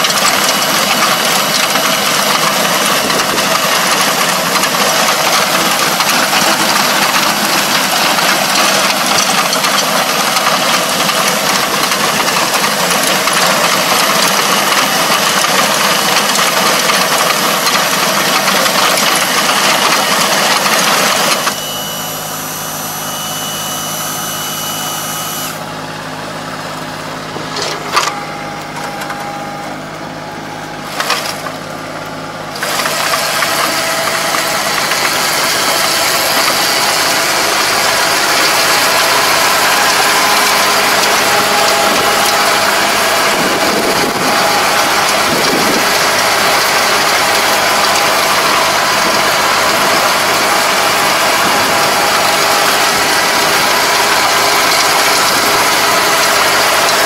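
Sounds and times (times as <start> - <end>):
mechanical clatter: 0.0 - 21.6, 32.5 - 57.0
farm machine engine running: 0.0 - 57.0.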